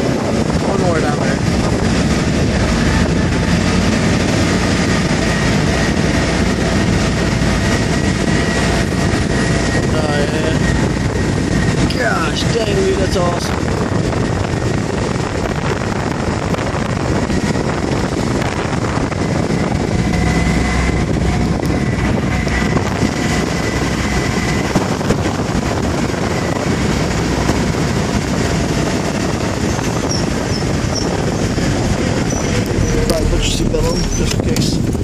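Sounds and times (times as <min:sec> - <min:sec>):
car driving: 0:00.0 - 0:35.0
wind on microphone: 0:00.0 - 0:35.0.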